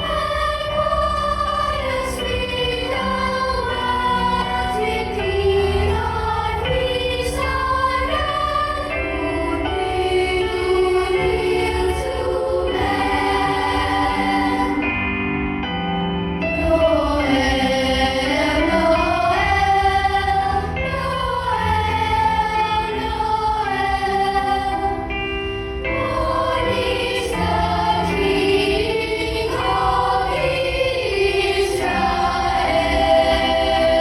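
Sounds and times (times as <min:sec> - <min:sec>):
choir singing in harmony: 0:00.0 - 0:34.0.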